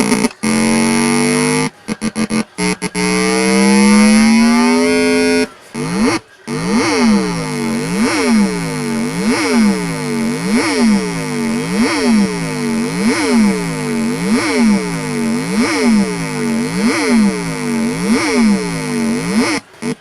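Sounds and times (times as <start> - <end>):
electronic siren sweeping: 0.0 - 19.6.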